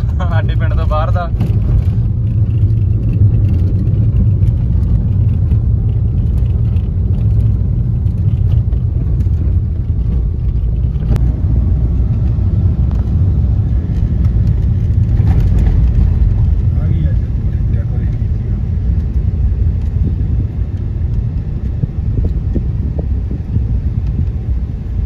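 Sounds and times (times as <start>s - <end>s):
car rumbling over dirt track: 0.0s - 25.0s.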